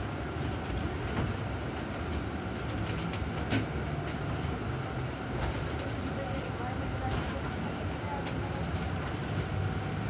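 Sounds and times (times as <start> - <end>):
bus rumble from inside: 0.0 - 10.0.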